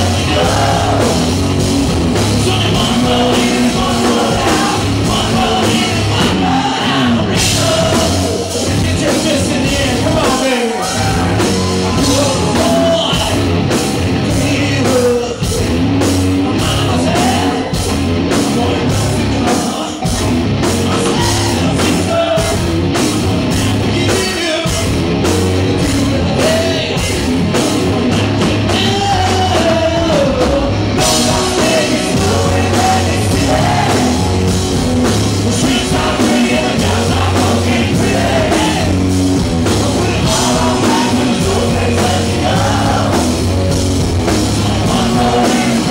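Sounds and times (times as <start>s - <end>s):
lead singer vocals: 0.0s - 1.5s, 2.2s - 15.6s, 16.4s - 22.7s, 25.6s - 43.6s, 44.3s - 45.9s
rock band playing live: 0.0s - 45.9s.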